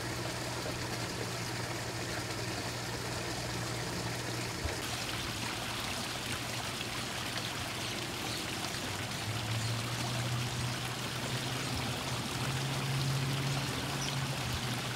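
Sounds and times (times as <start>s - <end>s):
water trickling into pond: 0.0s - 14.9s.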